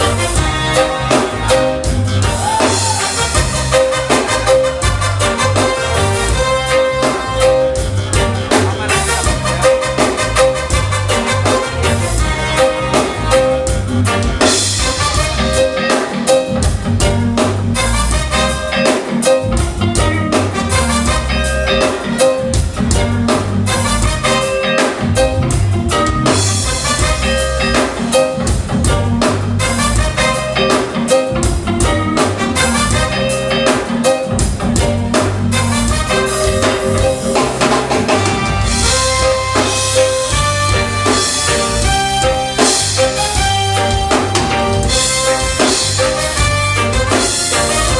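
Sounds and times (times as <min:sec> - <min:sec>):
drum kit beat: 0:00.0 - 0:47.9
reggae band playing: 0:00.0 - 0:47.9.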